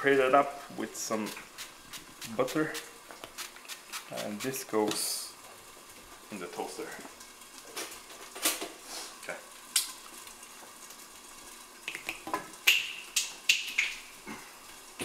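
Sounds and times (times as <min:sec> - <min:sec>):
pan sizzling: 0:00.0 - 0:15.0.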